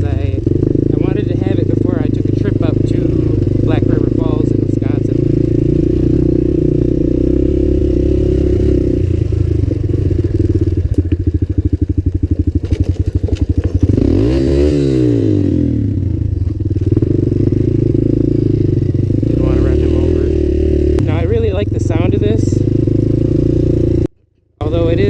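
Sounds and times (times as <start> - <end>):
quad bike engine running: 0.0 - 25.0.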